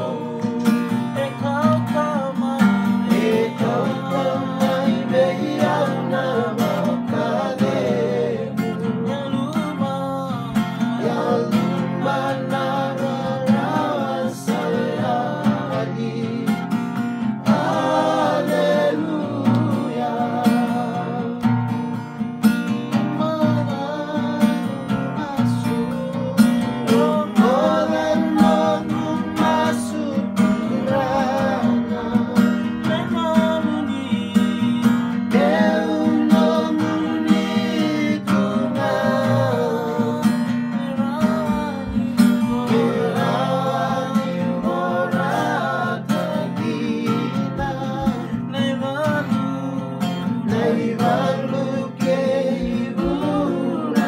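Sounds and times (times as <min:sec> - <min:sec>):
men singing together: 0:00.0 - 0:21.9, 0:22.6 - 0:54.0
strummed acoustic guitar: 0:00.0 - 0:54.0.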